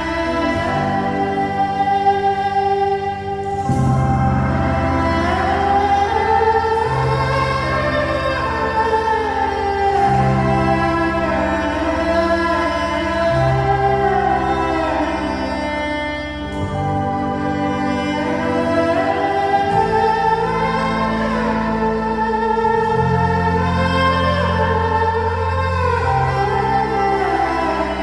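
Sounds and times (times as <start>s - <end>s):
choir-like voices: 0.0s - 28.0s
long bass notes: 0.0s - 28.0s
slow orchestral music: 0.0s - 28.0s.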